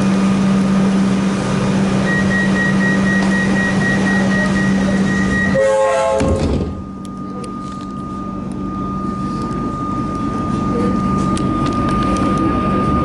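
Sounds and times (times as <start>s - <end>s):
rumbling rail noise: 0.0s - 13.0s
train low hum: 0.0s - 13.0s
thin high whine: 1.8s - 13.0s.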